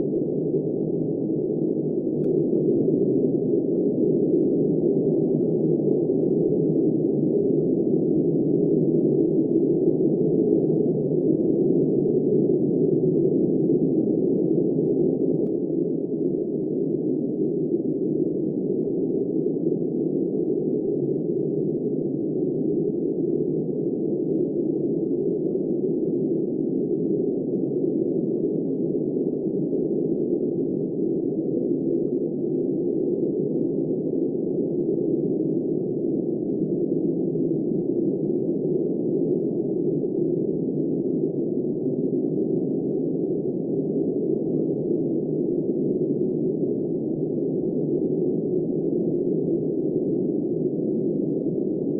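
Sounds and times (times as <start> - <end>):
muffled wind noise: 0.0 - 51.9.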